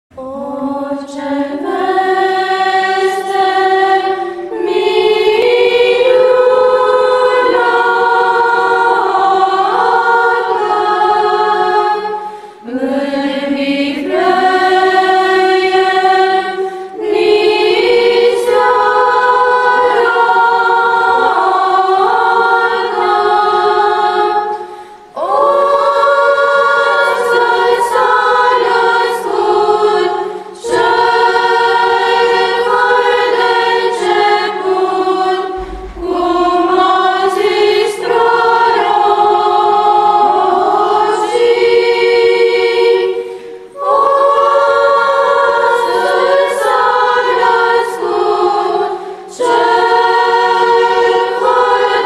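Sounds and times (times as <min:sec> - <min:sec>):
choir singing unaccompanied: 0:00.1 - 0:52.0.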